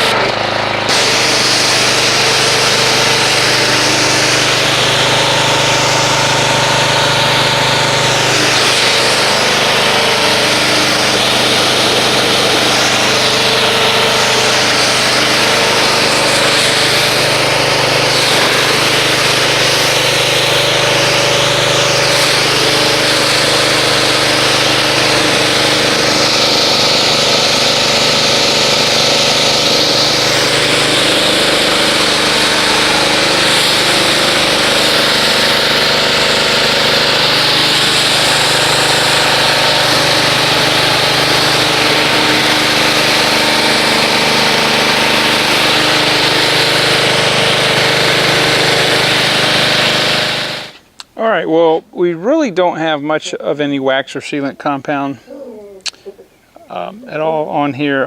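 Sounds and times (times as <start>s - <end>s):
pressure washer motor drone: 0.0s - 55.3s
water spray hissing: 0.8s - 51.0s.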